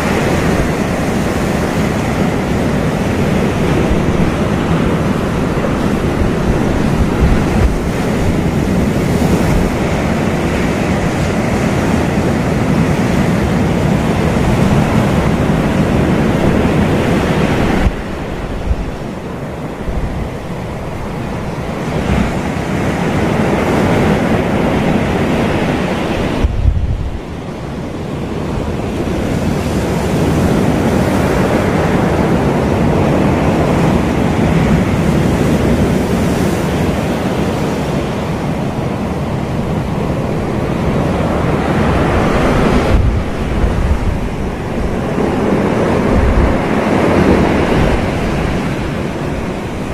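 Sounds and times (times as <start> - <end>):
surf washing up a sandy beach: 0.0 - 49.9.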